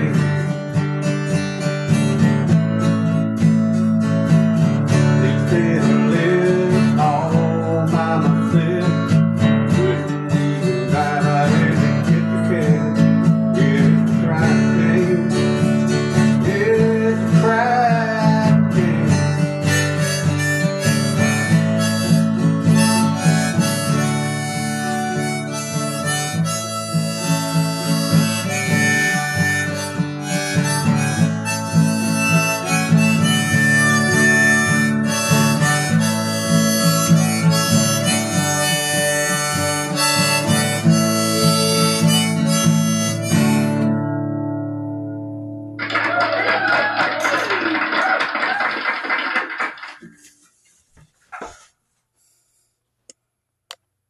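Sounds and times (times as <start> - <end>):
harmonica melody: 0.0 - 44.8
strummed acoustic guitar: 0.0 - 45.8.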